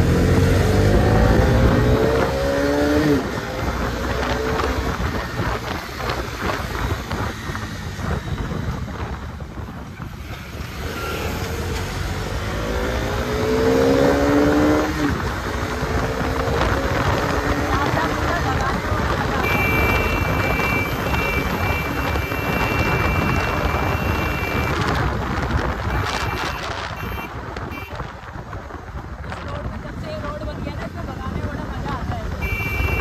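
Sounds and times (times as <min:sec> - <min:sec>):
motorcycle engine accelerating: 0:00.0 - 0:27.2
wind on microphone: 0:00.0 - 0:33.0.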